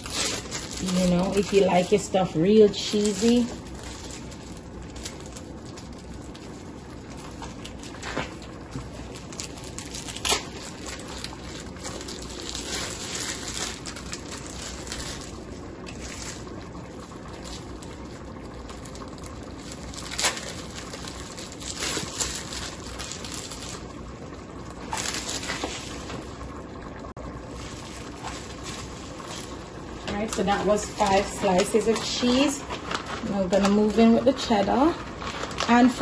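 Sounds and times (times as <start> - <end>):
sauce simmering and bubbling: 3.5 - 35.7.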